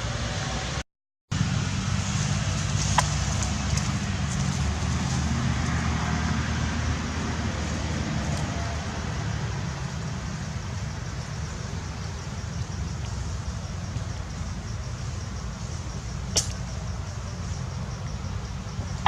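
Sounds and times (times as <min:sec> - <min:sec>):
road noise hiss: 0:00.0 - 0:19.0
traffic rumble: 0:00.0 - 0:19.0.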